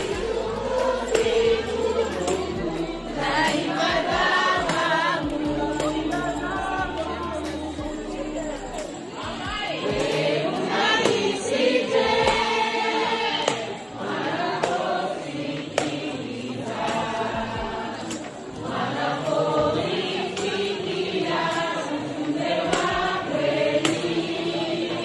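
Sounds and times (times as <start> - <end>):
crowd singing in chorus: 0.0 - 25.0.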